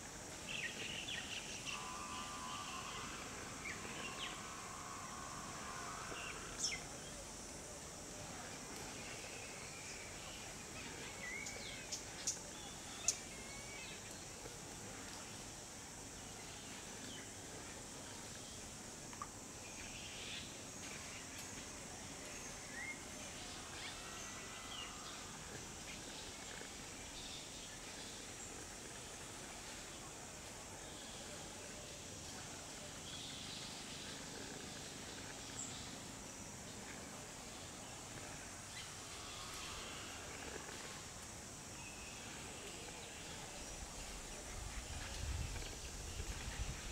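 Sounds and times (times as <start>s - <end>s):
high insect drone: 0.0s - 46.9s.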